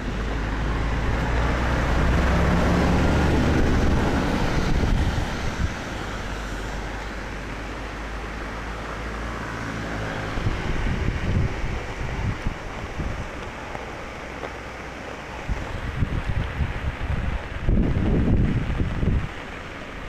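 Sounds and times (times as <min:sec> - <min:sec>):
wind buffeting microphone: 0:00.0 - 0:07.6, 0:10.0 - 0:20.0
heavy rain and wind: 0:00.0 - 0:20.0.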